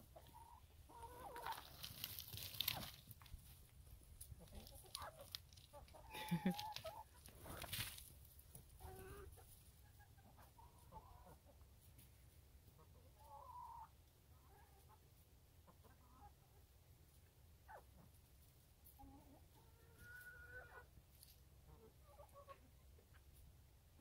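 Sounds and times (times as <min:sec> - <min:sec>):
hens clucking: 0:00.0 - 0:18.2, 0:18.8 - 0:23.5.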